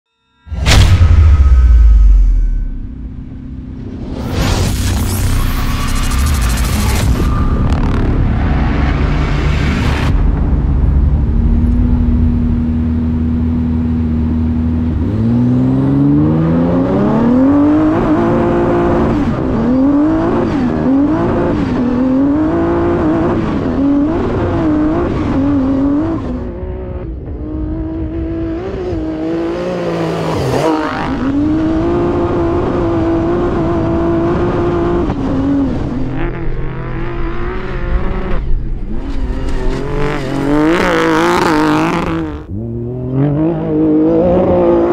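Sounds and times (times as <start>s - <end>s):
truck engine accelerating: 0.7s - 44.9s.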